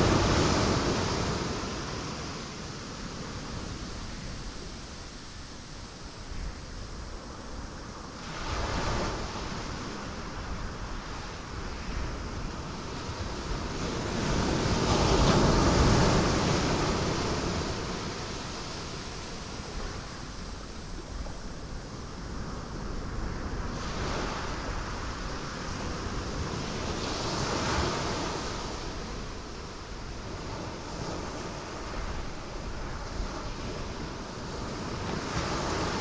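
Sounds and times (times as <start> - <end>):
waves crashing on rocks: 0.0 - 4.0, 8.2 - 36.0
surf wash: 0.0 - 36.0.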